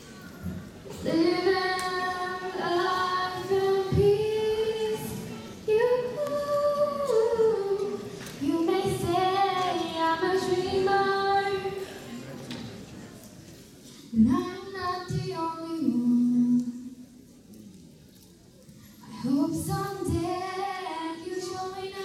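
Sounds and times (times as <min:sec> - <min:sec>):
girl singing into microphone: 0:00.0 - 0:12.0, 0:14.0 - 0:17.0, 0:19.0 - 0:22.0.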